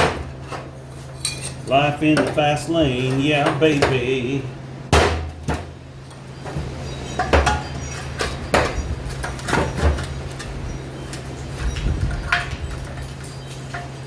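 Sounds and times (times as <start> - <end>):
low electrical hum: 0.0 - 14.0
metal exhaust parts clanking: 0.0 - 14.0.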